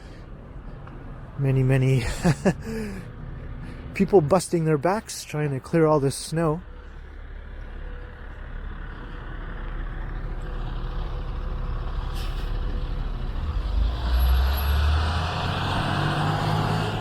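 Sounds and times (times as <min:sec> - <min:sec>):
heavy vehicle engine rumbling: 0:00.0 - 0:17.0
street traffic: 0:00.0 - 0:17.0.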